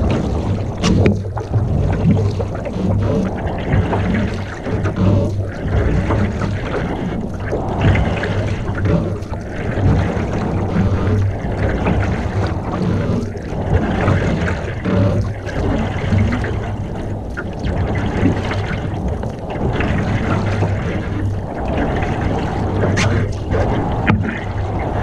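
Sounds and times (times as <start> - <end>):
water splashing around canoe paddle: 0.0 - 25.0
wind rumble on microphone: 0.0 - 25.0.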